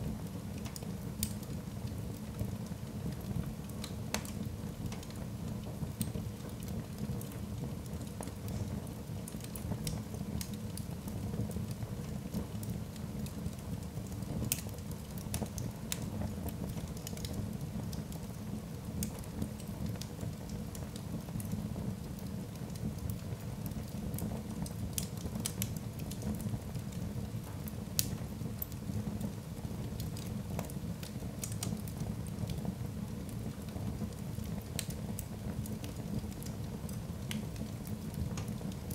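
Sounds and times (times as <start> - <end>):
logs crackling and popping: 0.2 - 38.9.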